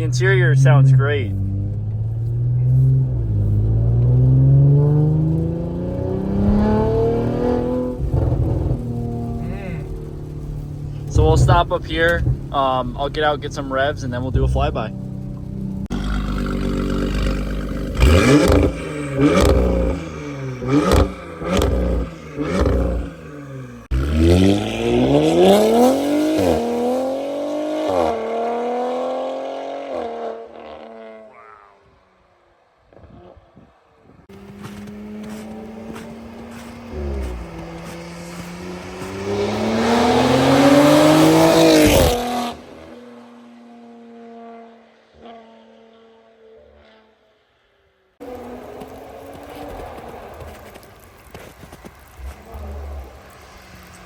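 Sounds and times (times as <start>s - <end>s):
exhaust crackle: 0.0s - 28.6s, 32.9s - 44.0s, 48.2s - 54.0s
car engine accelerating: 0.0s - 32.0s, 32.9s - 47.2s, 48.2s - 54.0s.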